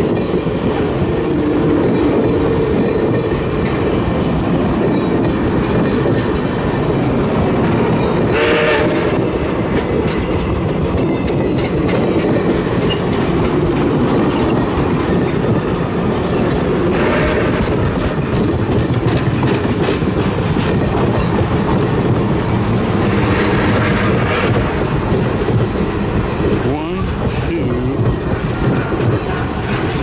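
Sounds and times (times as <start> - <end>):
train wheels rumbling on track: 0.0 - 30.0
wheels clicking over rail joints: 0.0 - 30.0.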